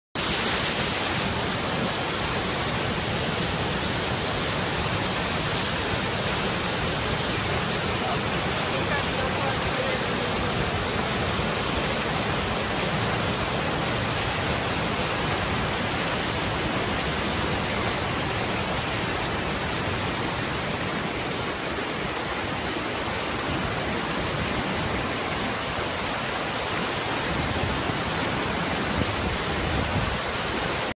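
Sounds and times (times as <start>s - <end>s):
waterfall rushing: 0.2s - 30.9s.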